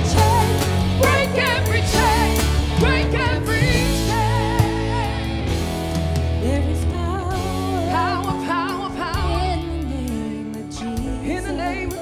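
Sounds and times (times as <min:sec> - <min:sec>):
women singing: 0:00.0 - 0:05.6, 0:06.4 - 0:12.0
bass guitar: 0:00.0 - 0:12.0.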